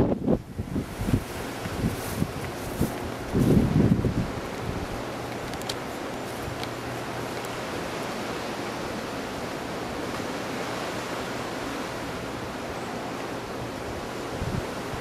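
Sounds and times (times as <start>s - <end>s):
strong wind through trees: 0.0s - 15.0s.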